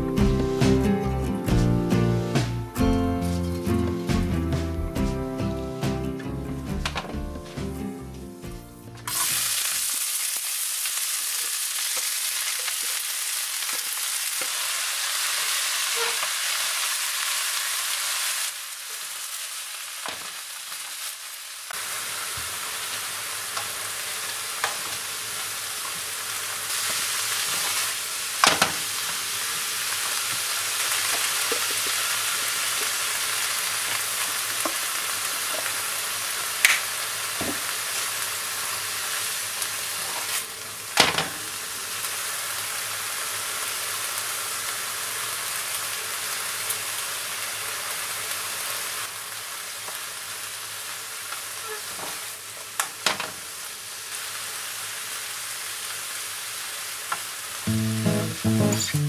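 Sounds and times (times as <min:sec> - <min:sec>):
leaves sizzling in a frying pan: 0:00.1 - 0:04.8, 0:09.0 - 0:59.0.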